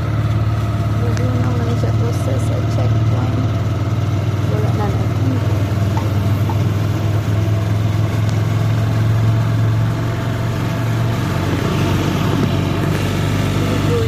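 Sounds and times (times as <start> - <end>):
motorcycle engine humming: 0.0 - 14.0
road and wind noise: 0.0 - 14.0.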